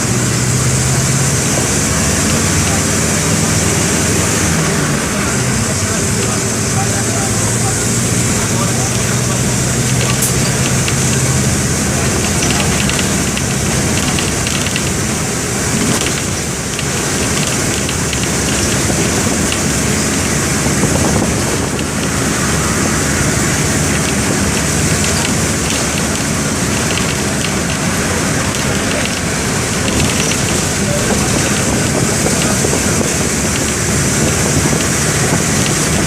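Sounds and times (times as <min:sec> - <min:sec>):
diesel bus engine droning: 0:00.0 - 0:36.0.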